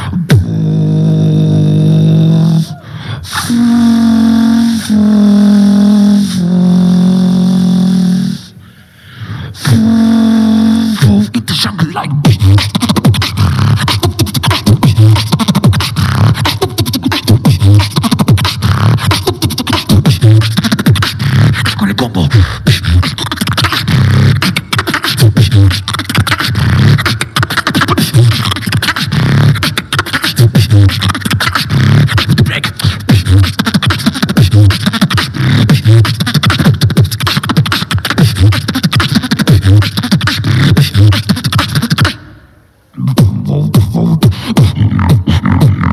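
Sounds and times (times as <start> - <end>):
amplified beatboxing: 0.0 - 45.9.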